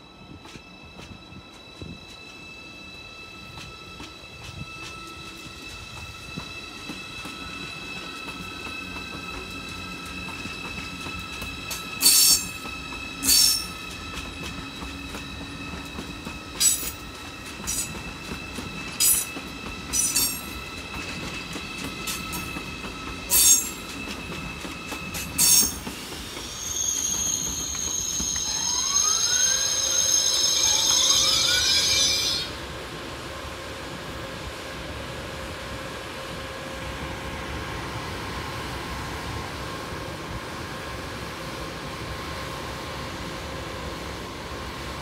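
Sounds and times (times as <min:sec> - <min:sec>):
train wheels squealing: 0:00.0 - 0:45.0.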